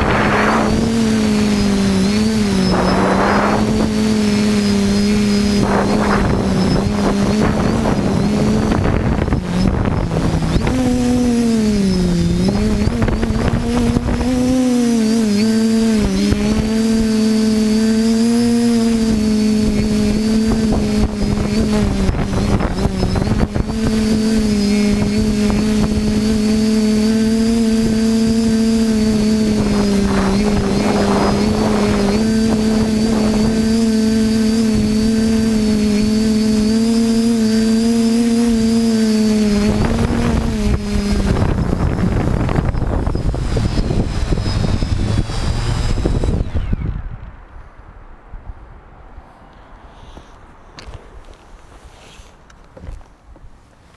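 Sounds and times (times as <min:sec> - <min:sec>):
quadcopter motors buzzing whine: 0:00.0 - 0:48.0
rushing wind noise: 0:00.0 - 0:49.2.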